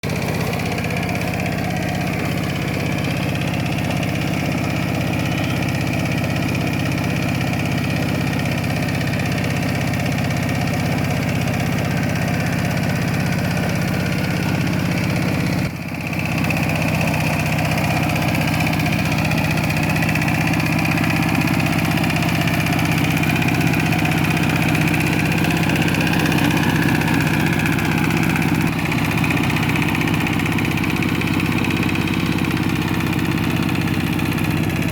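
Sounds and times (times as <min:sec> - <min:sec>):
tractor engine running steadily: 0:00.0 - 0:34.9.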